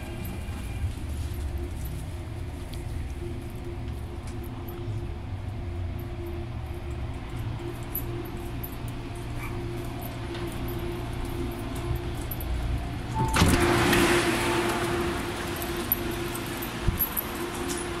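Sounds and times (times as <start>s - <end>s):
standing train humming: 0.0s - 18.0s.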